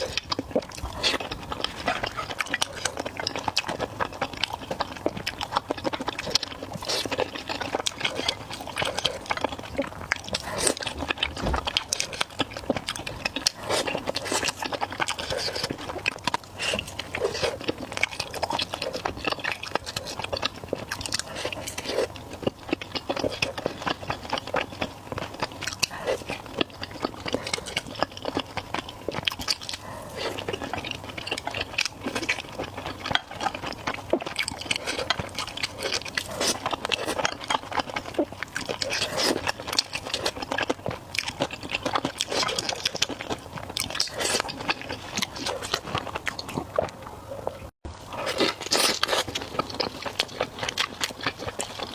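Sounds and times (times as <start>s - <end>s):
person chewing and biting food: 0.0s - 51.9s.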